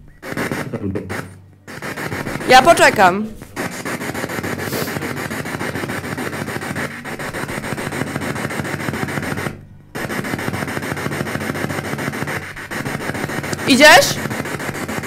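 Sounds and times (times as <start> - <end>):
chopped radio static hiss: 0.0 - 15.0.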